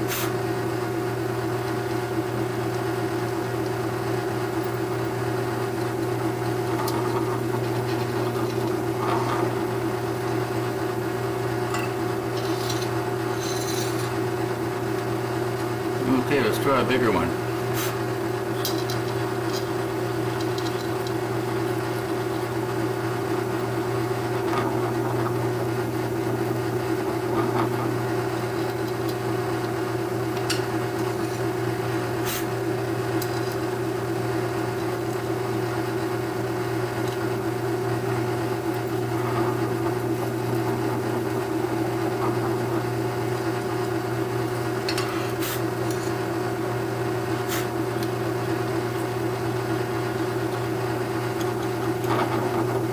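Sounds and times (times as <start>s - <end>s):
drill press motor humming: 0.0s - 52.9s.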